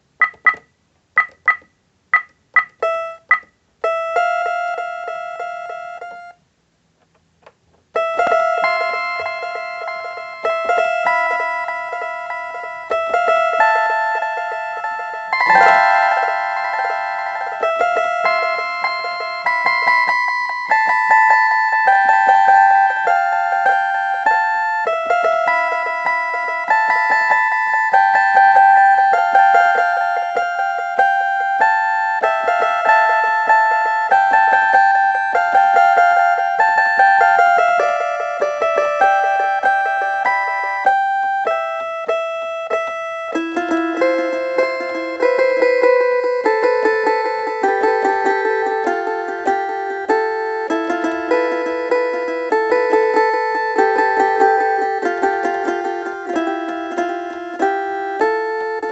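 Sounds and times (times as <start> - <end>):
piano-like keyboard melody: 2.2 - 6.4, 7.9 - 58.9.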